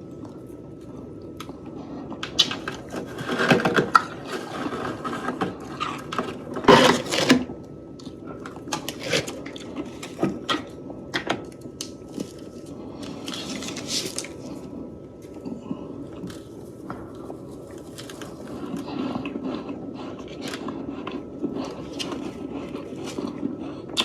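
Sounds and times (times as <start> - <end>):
freezer frost crunching: 0.0 - 24.0.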